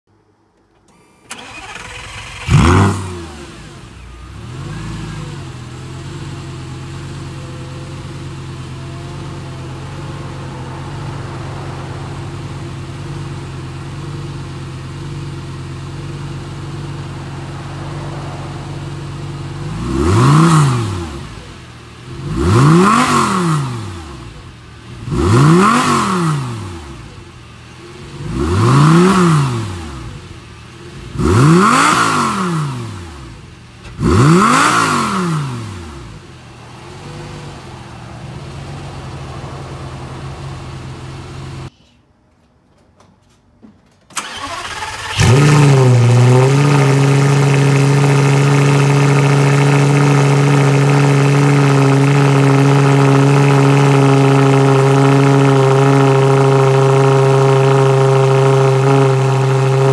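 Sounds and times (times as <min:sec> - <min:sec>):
sports car engine idling and revving: 0:00.1 - 0:41.7, 0:44.3 - 0:59.9.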